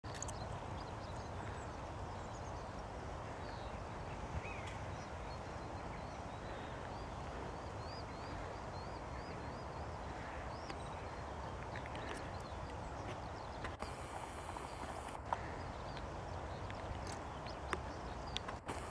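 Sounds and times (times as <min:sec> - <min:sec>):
distant birds calling: 0:00.1 - 0:18.9.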